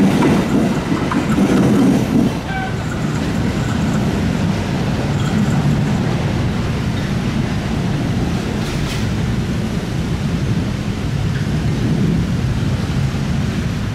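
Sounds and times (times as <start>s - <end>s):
train rumbling: 0.0s - 13.9s.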